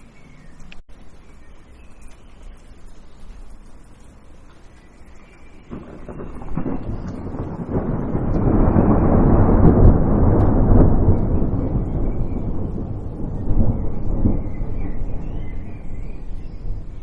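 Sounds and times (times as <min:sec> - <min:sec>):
thunder rumbling: 0:02.5 - 0:17.0.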